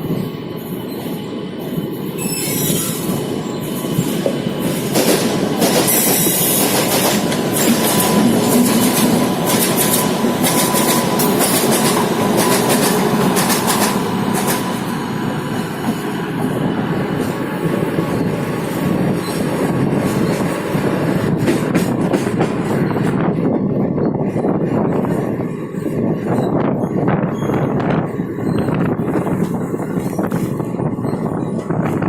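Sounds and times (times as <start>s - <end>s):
train rolling past: 0.0s - 32.0s.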